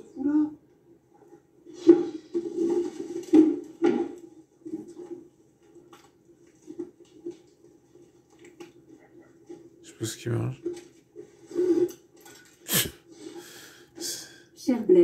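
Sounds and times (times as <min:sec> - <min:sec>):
film soundtrack from monitor: 0:00.0 - 0:15.0.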